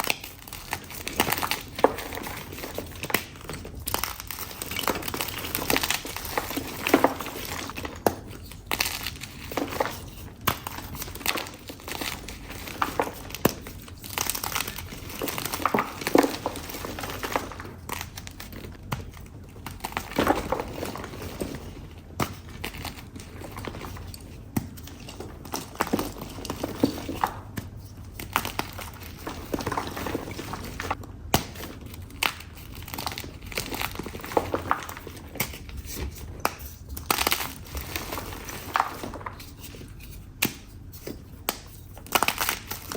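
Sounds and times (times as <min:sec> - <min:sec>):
chalk crushing and crumbling: 0:00.0 - 0:42.9.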